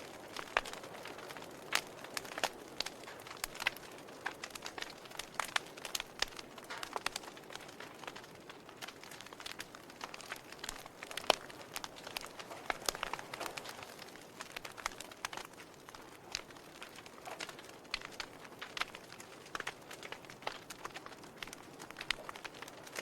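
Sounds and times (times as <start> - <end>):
faint steady fire hiss: 0.0 - 23.0
wood fire crackling and popping: 0.0 - 23.0.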